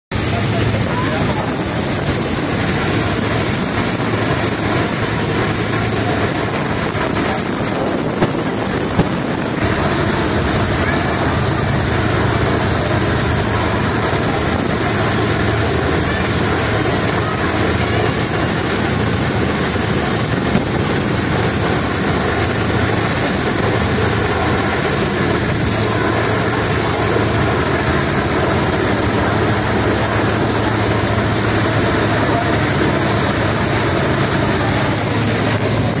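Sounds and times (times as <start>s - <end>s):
boat engine drone: 0.1s - 36.0s
wind and water rushing: 0.1s - 36.0s.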